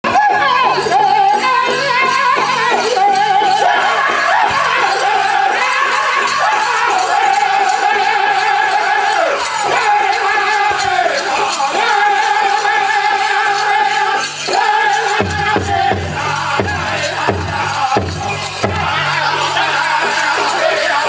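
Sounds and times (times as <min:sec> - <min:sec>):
chorus of high-pitched voices singing: 0:00.1 - 0:21.0
steady drumbeat: 0:01.4 - 0:21.0.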